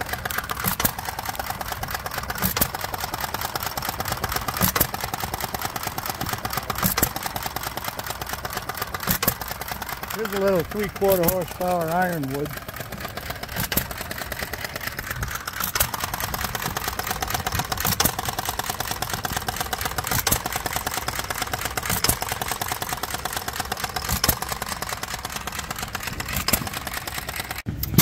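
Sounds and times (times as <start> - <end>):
engine mechanical clatter: 0.0 - 28.0.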